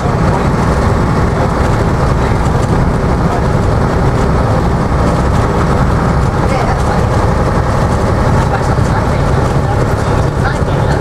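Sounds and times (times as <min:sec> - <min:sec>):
bus engine drone: 0:00.0 - 0:11.0
road rumble: 0:00.0 - 0:11.0.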